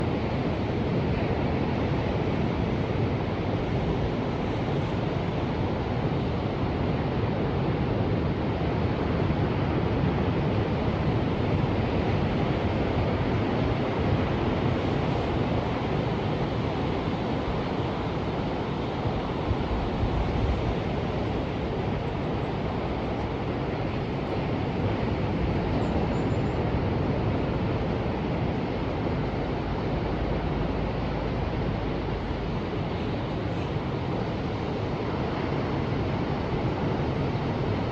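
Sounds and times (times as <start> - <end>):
ocean surf washing: 0.0 - 37.9.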